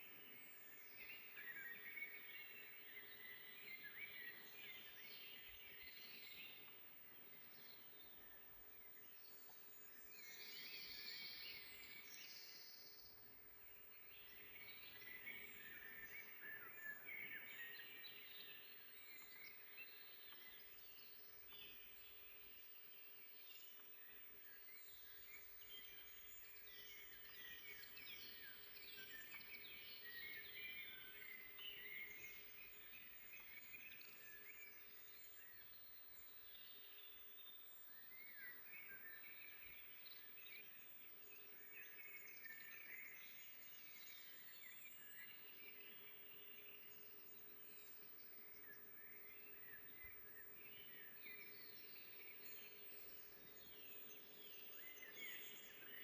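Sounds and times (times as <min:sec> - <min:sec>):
birds chirping and trilling: 0:00.2 - 0:13.1, 0:13.7 - 0:56.0.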